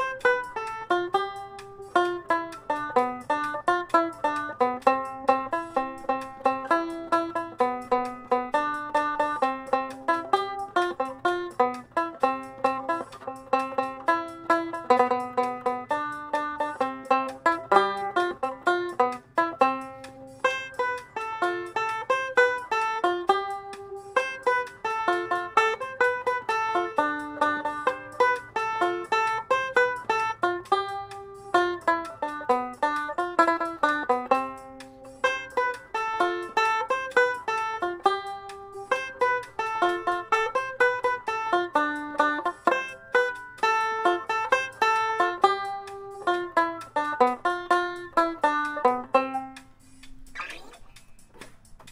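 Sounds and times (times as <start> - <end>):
banjo picking melody: 0.0 - 51.9.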